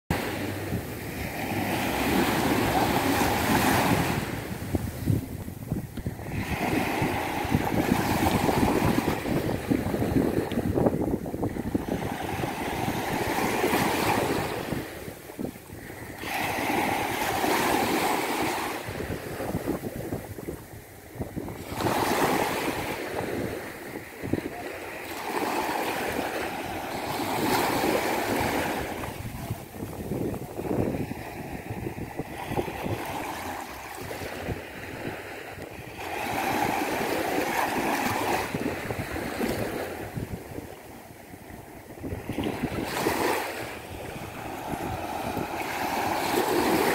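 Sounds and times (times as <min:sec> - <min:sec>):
sea waves breaking on beach: 0:00.1 - 0:46.9
wind rumble on microphone: 0:00.1 - 0:46.9.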